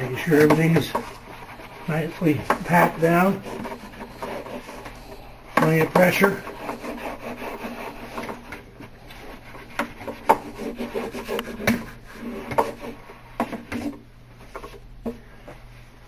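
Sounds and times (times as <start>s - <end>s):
hand roller rolling on wood: 0.0s - 14.8s.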